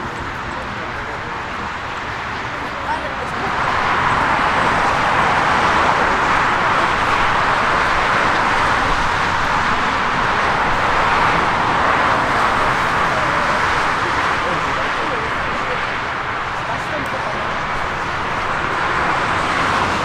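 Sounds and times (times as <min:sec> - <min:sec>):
jet airliner engines rushing: 0:00.0 - 0:20.0.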